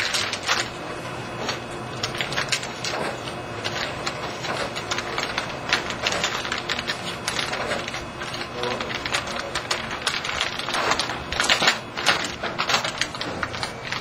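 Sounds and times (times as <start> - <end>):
plastic film crinkling: 0.0 - 0.8, 1.4 - 14.0.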